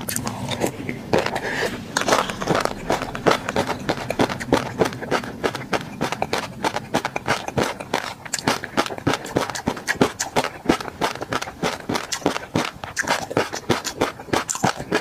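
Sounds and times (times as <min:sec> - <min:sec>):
chewing with wet clicks and pops: 0:00.0 - 0:15.0.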